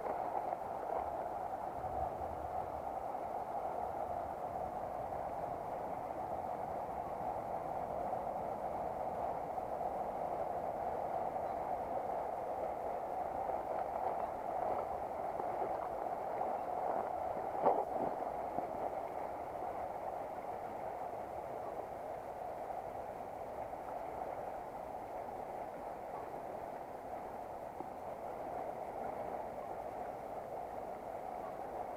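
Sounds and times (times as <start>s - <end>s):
river running over stones: 0.0s - 31.9s.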